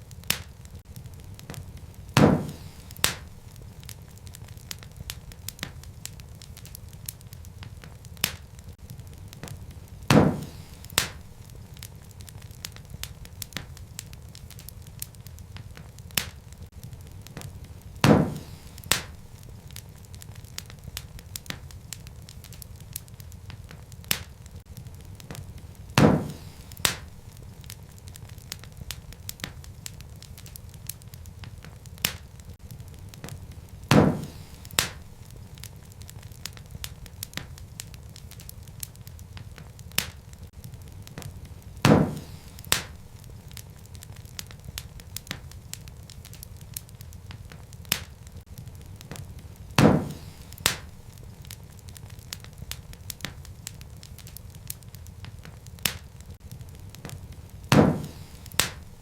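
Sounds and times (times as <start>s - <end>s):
loud fire pops: 0.0s - 59.0s
wood fire crackling: 0.0s - 59.0s.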